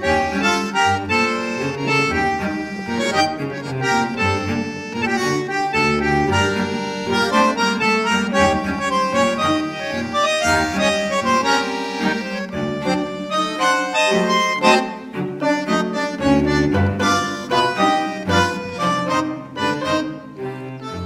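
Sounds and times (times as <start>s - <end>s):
lively instrumental music: 0.0s - 21.0s.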